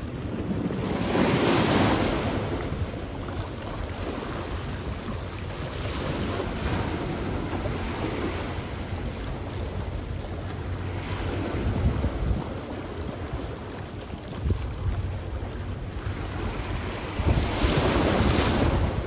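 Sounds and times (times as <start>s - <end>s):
wave breaking: 0.0s - 19.0s.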